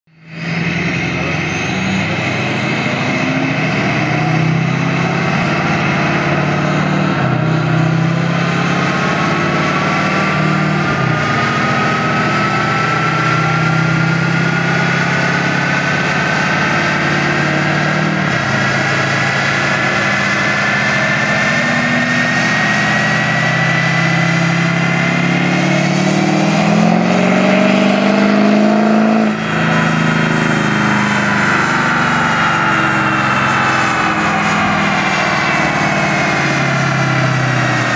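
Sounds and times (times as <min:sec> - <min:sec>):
pickup engine at full load: 0:00.1 - 0:37.9
rising whine: 0:00.1 - 0:37.9.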